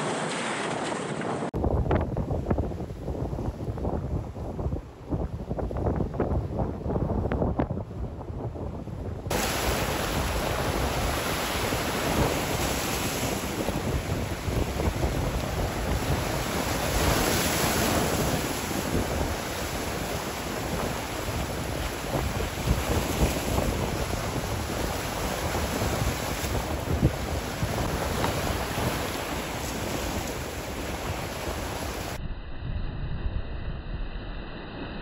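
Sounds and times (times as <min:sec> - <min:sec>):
sea waves washing and breaking: 0:00.0 - 0:32.2
wind buffeting microphone: 0:01.3 - 0:34.3.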